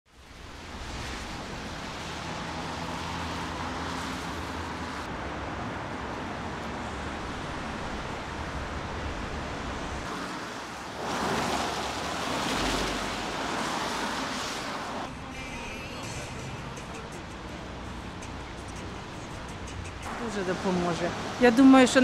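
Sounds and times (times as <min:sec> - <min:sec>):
tyres hissing on wet road: 0:00.1 - 0:05.1, 0:07.0 - 0:22.0
low traffic hum: 0:00.1 - 0:22.0
car passing: 0:00.2 - 0:22.0.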